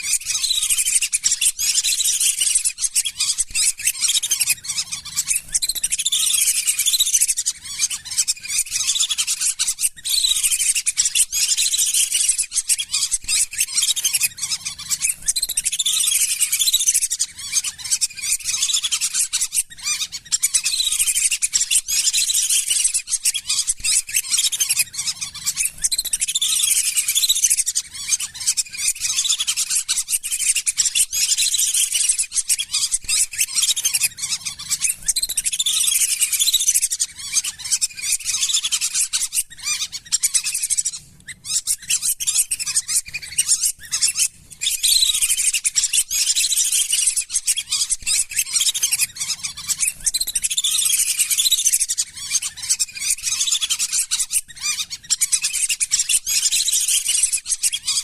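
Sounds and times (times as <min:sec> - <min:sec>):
ducks whistling: 0:00.0 - 0:58.0.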